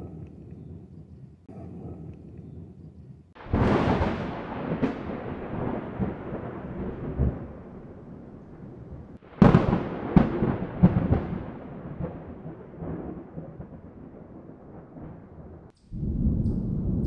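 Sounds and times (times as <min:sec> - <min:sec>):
thunder clap and rumble: 0:00.0 - 0:17.0.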